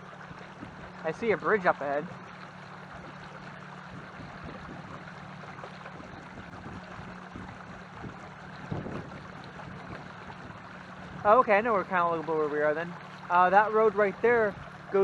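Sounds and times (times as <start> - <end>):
steady low hum: 0.0 - 15.0
water rushing past hull: 0.0 - 15.0.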